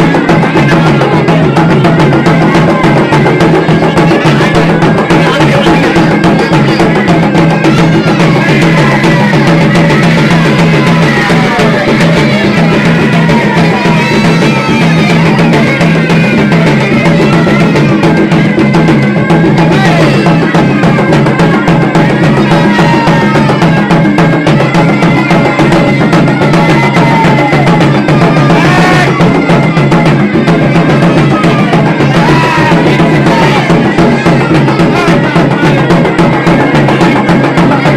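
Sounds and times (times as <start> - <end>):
drums beating dense rhythm: 0.0 - 37.9.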